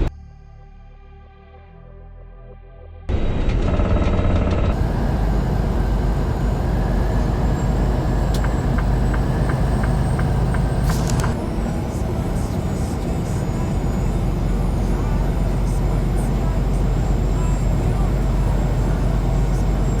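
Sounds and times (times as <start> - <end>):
truck engine and road rumble: 3.1 - 20.0.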